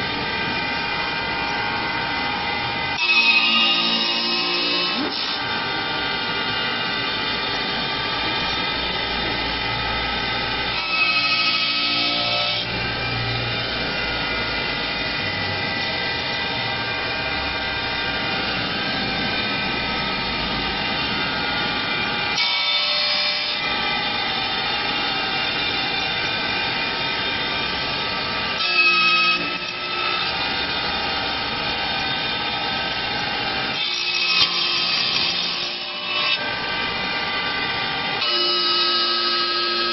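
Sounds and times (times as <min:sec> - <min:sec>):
wood cutting noise: 0:00.0 - 0:39.9
wood lathe motor whine: 0:00.0 - 0:39.9.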